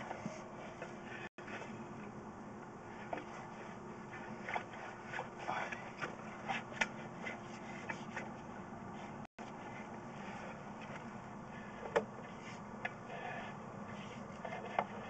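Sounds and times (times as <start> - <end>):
low electrical hum: 0.0 - 15.0
faint clicks and scrapes: 2.8 - 15.0.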